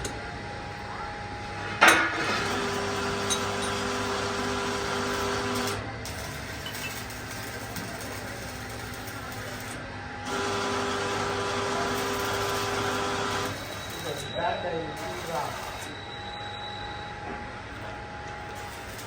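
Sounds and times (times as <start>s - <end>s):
boring machine humming: 0.0s - 19.0s
machine whine: 0.0s - 19.0s.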